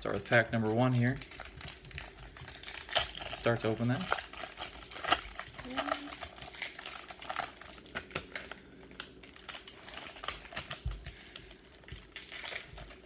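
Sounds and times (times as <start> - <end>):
wrapper tearing and cards crinkling: 0.0 - 13.0.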